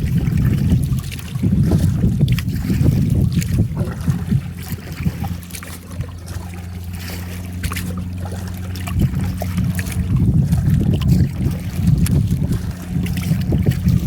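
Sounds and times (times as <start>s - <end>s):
water trickling and dripping: 0.0s - 14.0s
wind buffeting microphone: 0.0s - 14.0s.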